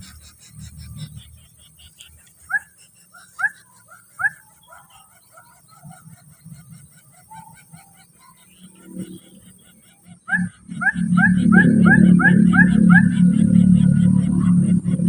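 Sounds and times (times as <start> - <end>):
loud rising squeaky bird calls: 0.0 - 15.0.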